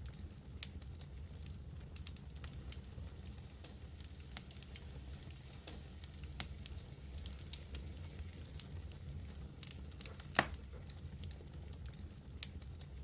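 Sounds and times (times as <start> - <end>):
fire pop: 0.0 - 12.8
wood fire crackling: 0.0 - 13.0.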